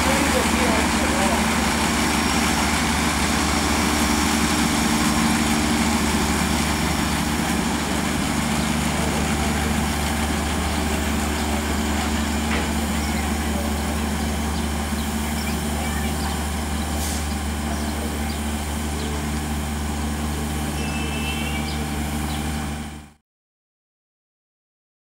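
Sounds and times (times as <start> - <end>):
railcar diesel engine idling: 0.0 - 23.2.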